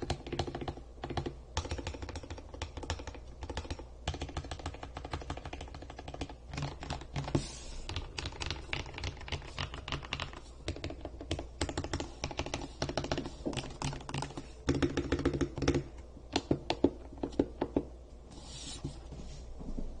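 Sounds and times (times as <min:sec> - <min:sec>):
typing on mechanical keyboard: 0:00.0 - 0:17.8.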